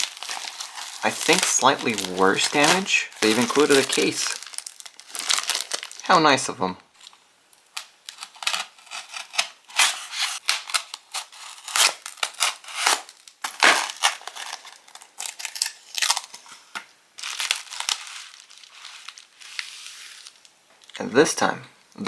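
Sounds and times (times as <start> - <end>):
plastic packaging crinkling: 0.0 - 6.2, 7.0 - 21.0.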